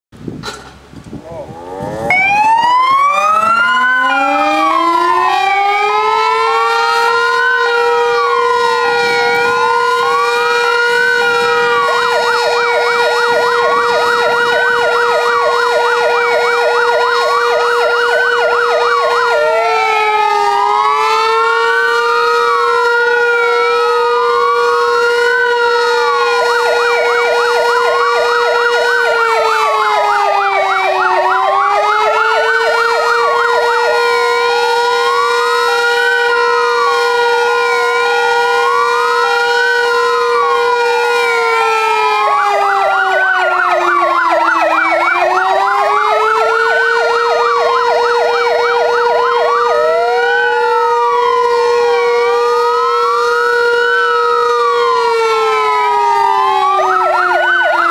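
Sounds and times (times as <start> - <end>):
wailing sirens: 1.2 - 57.9
rapid siren yelp: 1.4 - 57.9
steady siren tone: 1.4 - 57.9.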